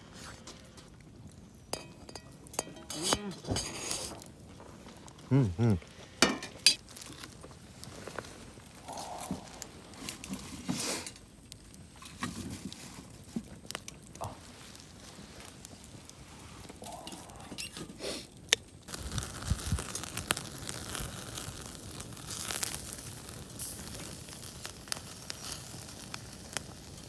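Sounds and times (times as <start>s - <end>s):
rustling and crinkling handling noise: 0.0s - 27.0s
campfire crackling and popping: 0.2s - 27.0s.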